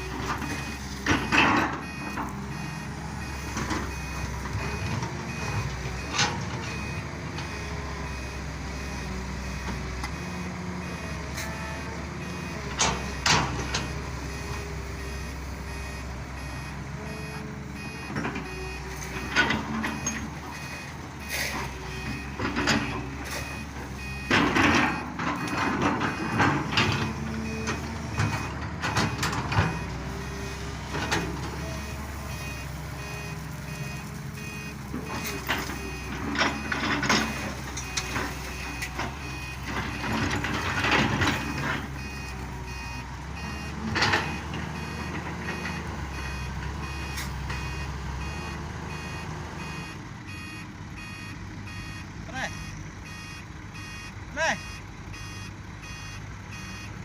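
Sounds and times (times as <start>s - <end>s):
heavy diesel machinery running: 0.0s - 57.0s
truck reversing alarm beeping: 0.0s - 57.0s.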